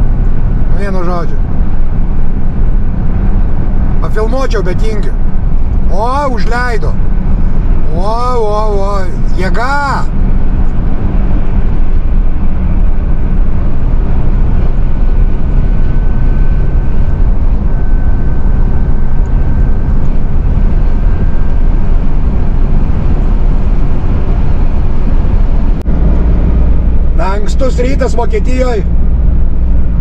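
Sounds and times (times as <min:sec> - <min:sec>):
lorry engine and tyre drone: 0:00.0 - 0:30.0.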